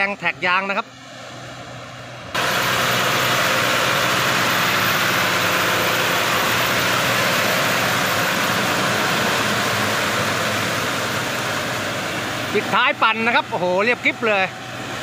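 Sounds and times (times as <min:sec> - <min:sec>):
tractor engine under load: 0:01.5 - 0:15.0.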